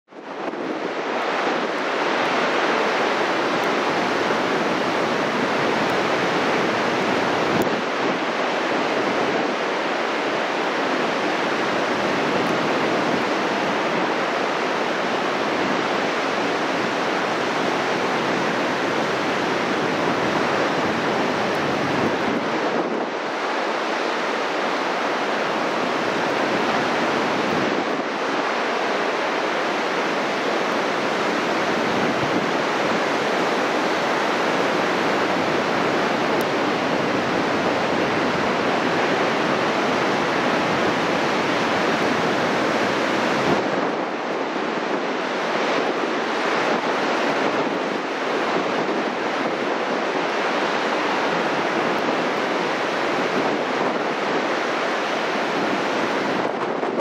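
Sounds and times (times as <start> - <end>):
heavy surf breaking on beach: 0.1 - 57.0
wind rumble on microphone: 0.1 - 57.0.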